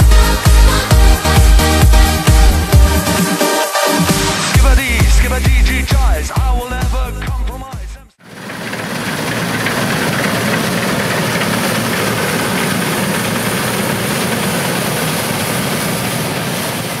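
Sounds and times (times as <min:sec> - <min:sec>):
diesel engine running: 0:00.0 - 0:03.4, 0:04.1 - 0:17.0.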